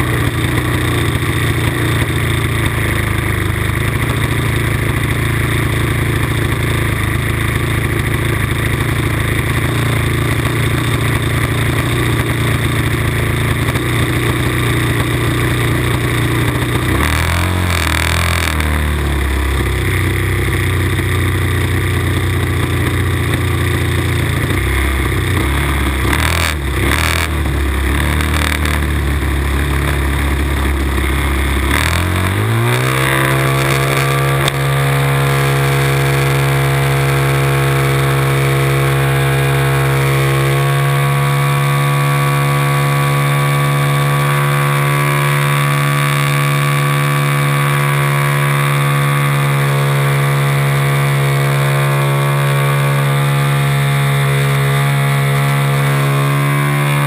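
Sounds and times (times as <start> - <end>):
model airplane engine idling: 0.0 - 57.0.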